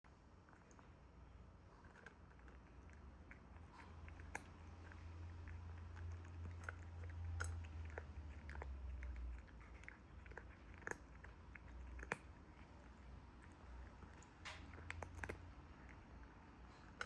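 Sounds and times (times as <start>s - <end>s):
faint low hum: 0.0s - 17.0s
cat chewing and crunching food: 0.1s - 17.0s.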